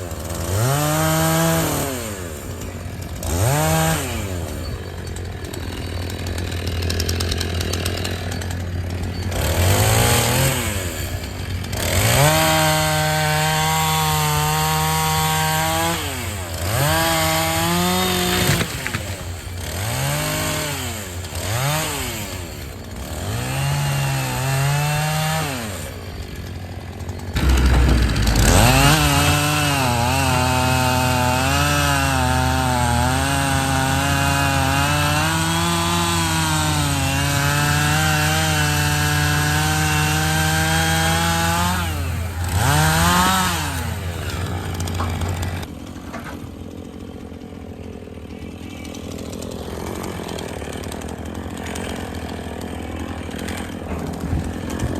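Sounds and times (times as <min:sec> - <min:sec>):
chainsaw revving: 0:00.0 - 0:46.0, 0:46.6 - 0:54.9.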